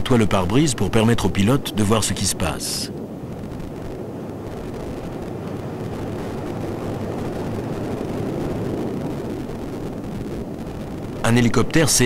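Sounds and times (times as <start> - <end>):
jet aircraft in flight: 1.2 - 12.0.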